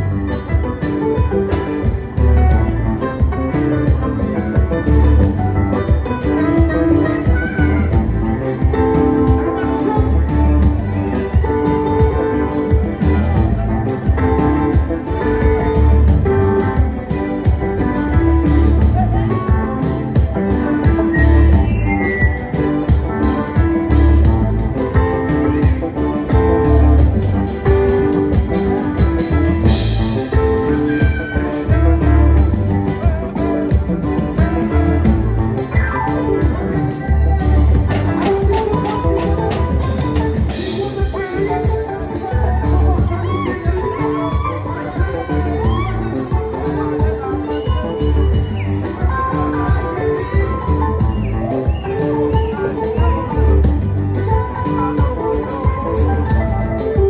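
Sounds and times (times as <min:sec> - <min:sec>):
drum beat: 0:00.0 - 0:55.8
bass: 0:00.0 - 0:57.0
keyboard chords: 0:00.0 - 0:57.0
live band playing: 0:00.0 - 0:57.0.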